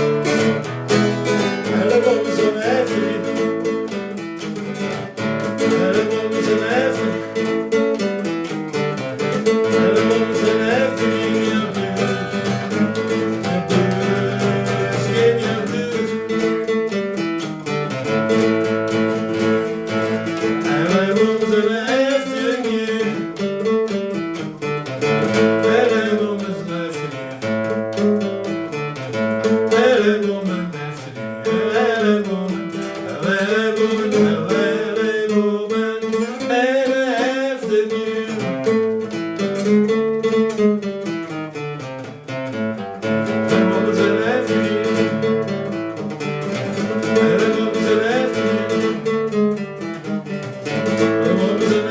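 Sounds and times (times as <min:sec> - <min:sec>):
person singing: 0:00.0 - 0:08.0, 0:08.7 - 0:17.2, 0:17.9 - 0:39.7, 0:43.0 - 0:51.9
guitar accompaniment: 0:00.0 - 0:51.9.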